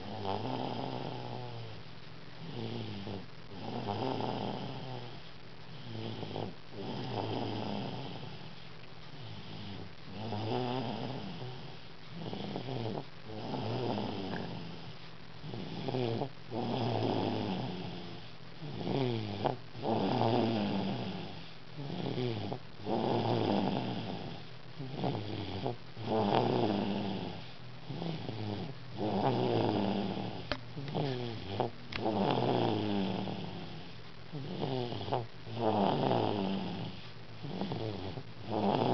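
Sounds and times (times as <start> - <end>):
child snoring: 0.0 - 1.8, 2.4 - 5.2, 5.8 - 8.6, 9.2 - 38.9.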